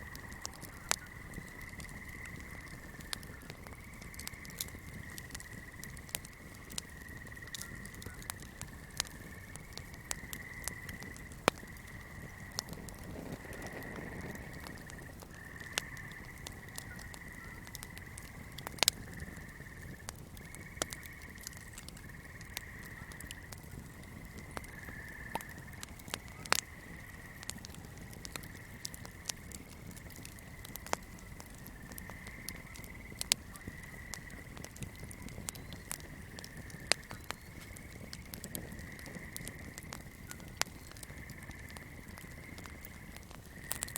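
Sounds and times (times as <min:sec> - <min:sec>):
fire crackling: 0:00.0 - 0:43.9.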